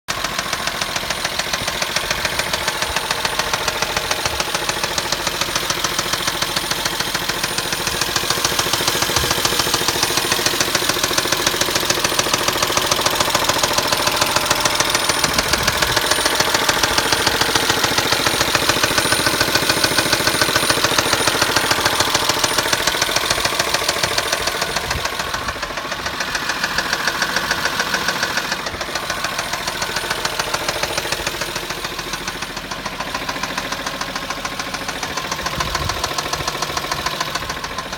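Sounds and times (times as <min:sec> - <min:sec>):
car engine knocking: 0:00.0 - 0:37.9.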